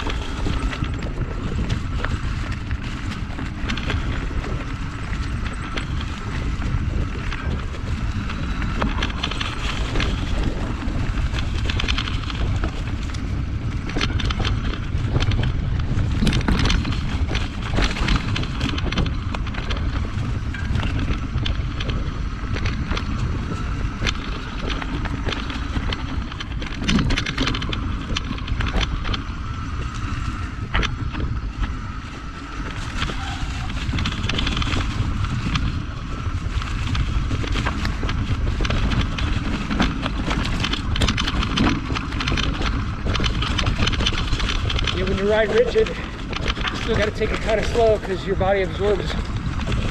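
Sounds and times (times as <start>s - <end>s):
bike clattering over rocks: 0.0s - 49.9s
wind buffeting microphone: 0.0s - 49.9s.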